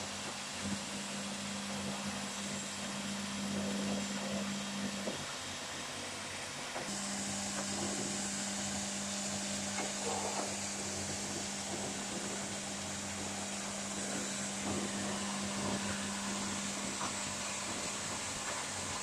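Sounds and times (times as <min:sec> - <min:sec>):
woodworking machine motors humming: 0:00.0 - 0:19.0.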